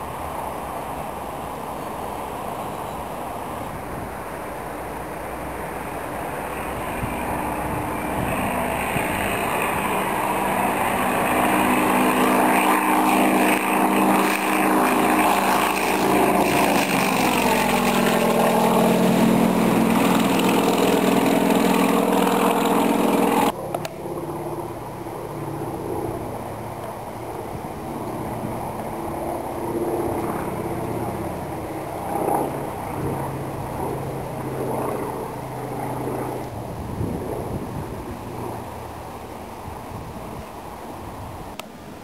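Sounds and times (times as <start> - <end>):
propeller plane engine: 0.0 - 42.0.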